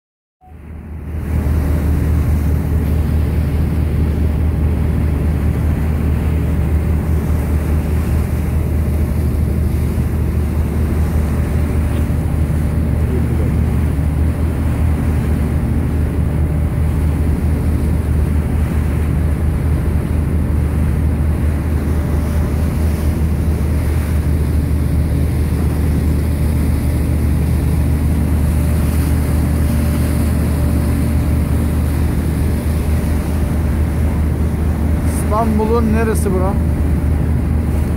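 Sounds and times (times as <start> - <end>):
boat engine droning: 0.4 - 37.9
water noise: 0.4 - 37.9.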